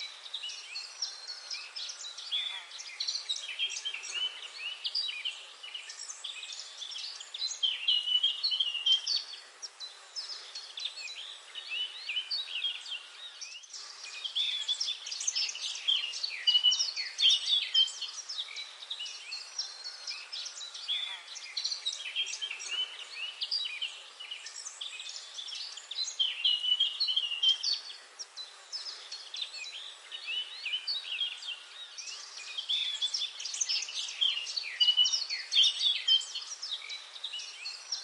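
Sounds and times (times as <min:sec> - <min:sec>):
songbirds chirping and trilling: 0:00.0 - 0:38.0.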